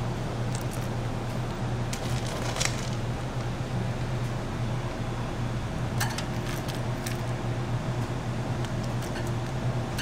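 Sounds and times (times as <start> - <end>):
kitchen machinery hum: 0.0 - 10.0.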